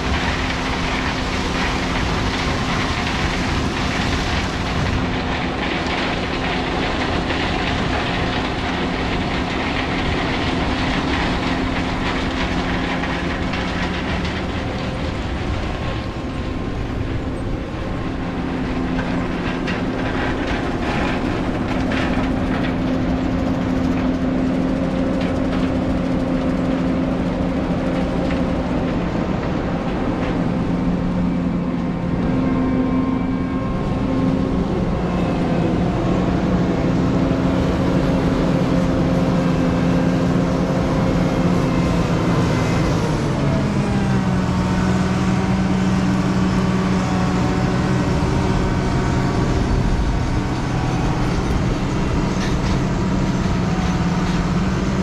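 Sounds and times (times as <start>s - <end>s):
mechanical drone with low tones: 0.0s - 55.0s
noisy rumble: 0.0s - 55.0s.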